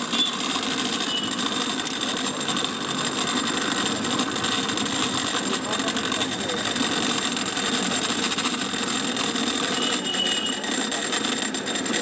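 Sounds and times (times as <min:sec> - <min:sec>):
cotton candy machine whirring: 0:00.0 - 0:12.0.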